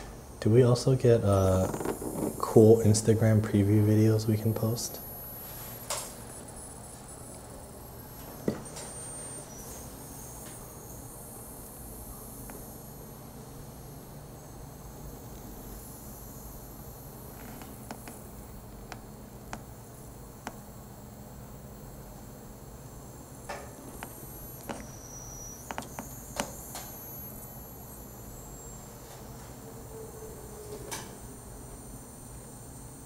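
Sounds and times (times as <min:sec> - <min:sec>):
ultrasonic cutter whine: 0:00.0 - 0:33.0.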